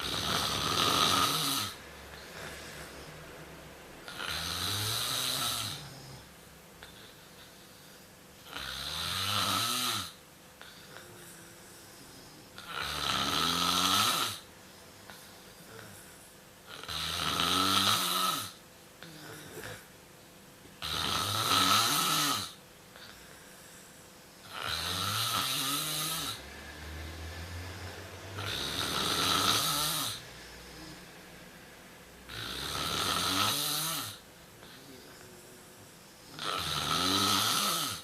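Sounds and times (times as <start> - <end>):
pet snoring: 0.0 - 3.3, 4.0 - 19.9, 20.8 - 31.6, 32.2 - 38.0.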